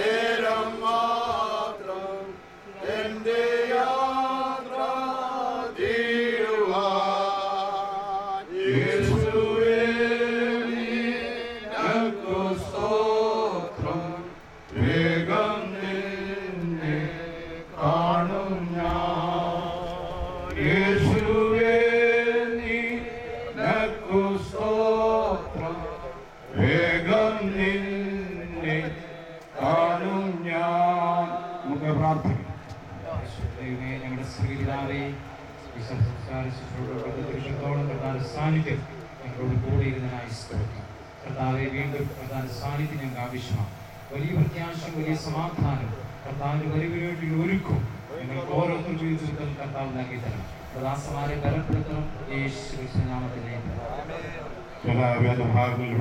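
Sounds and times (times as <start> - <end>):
people singing a slow hymn: 0.0 - 56.0.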